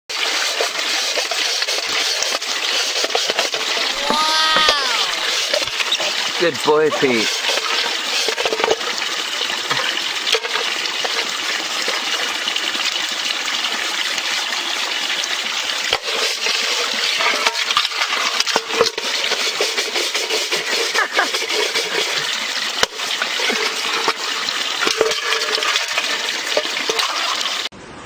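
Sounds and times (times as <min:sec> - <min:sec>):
steady watery hiss: 0:00.1 - 0:13.7, 0:15.7 - 0:27.6
water splashing in a basin: 0:00.1 - 0:27.7.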